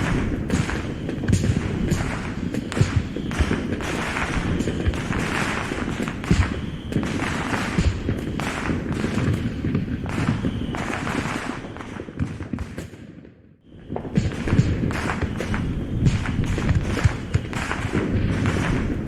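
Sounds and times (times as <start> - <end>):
fireworks crackling: 0.0 - 13.0, 13.7 - 19.0
fireworks booming: 0.0 - 19.0.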